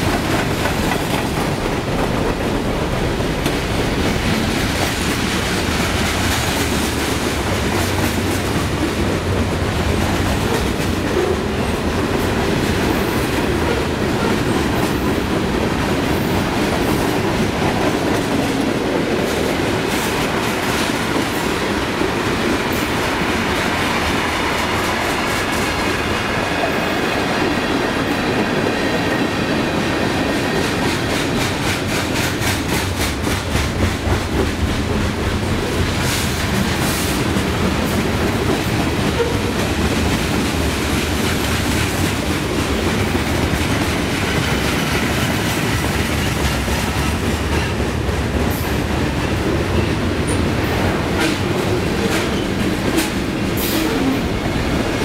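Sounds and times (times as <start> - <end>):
steel wheels rumbling on rails: 0.0 - 55.0
train wheels clickety-clack: 0.0 - 55.0.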